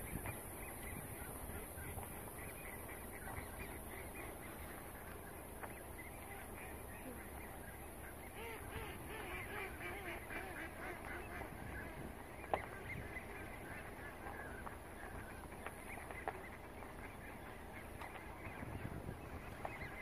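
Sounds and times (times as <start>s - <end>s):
flock of waterbirds calling: 0.0s - 20.0s.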